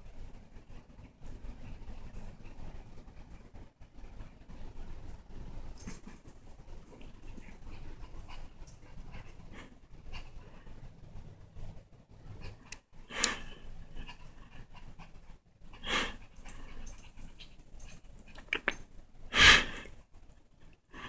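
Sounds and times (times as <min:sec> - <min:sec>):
dog panting: 0:00.1 - 0:18.6.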